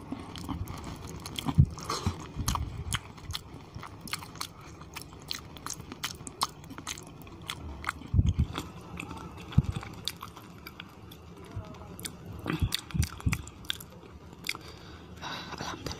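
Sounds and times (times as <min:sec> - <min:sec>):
chewing and mouth smacking: 0:00.0 - 0:14.7.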